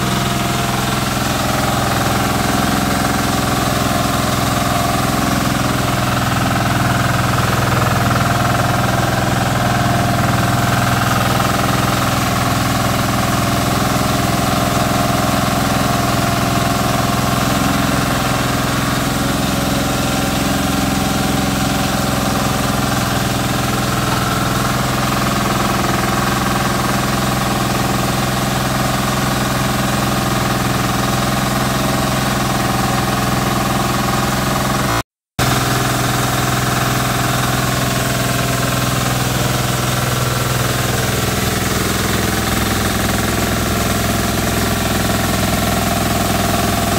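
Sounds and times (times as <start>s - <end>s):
rice milling machine: 0.0s - 46.9s
small engine running: 0.0s - 46.9s.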